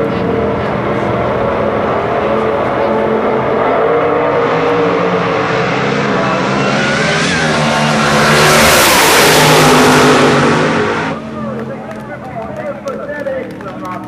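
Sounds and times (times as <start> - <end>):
drag racing car engine: 0.0 - 14.0.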